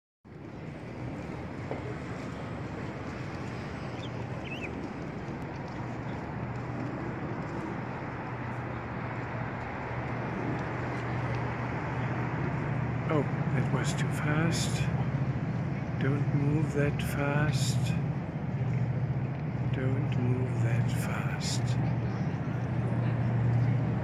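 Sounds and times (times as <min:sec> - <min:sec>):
city traffic hum: 0:00.2 - 0:24.0.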